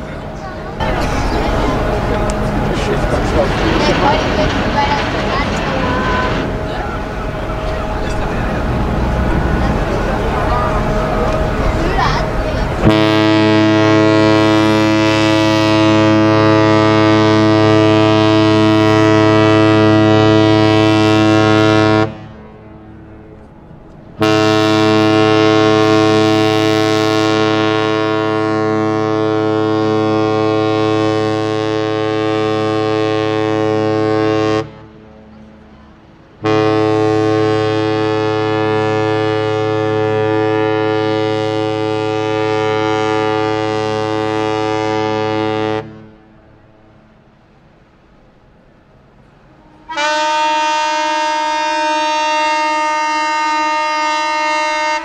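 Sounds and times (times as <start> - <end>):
ship's horn blasts: 0.0 - 47.5, 49.3 - 55.0.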